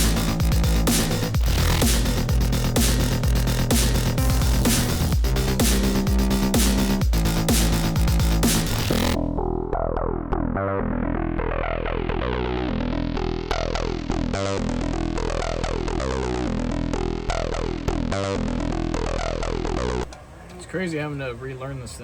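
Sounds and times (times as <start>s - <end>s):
electronic music with synth sweeps: 0.0s - 20.1s.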